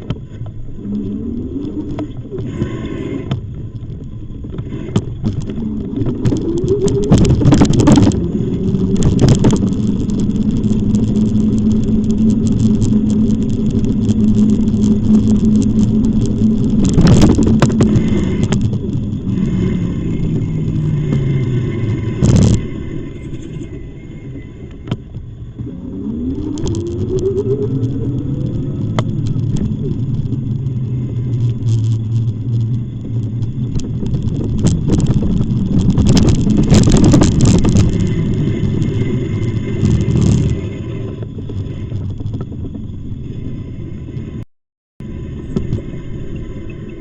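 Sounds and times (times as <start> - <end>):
e-bike riding noise: 0.0 - 44.4, 45.0 - 47.0
motor whine rising in pitch: 0.0 - 44.4.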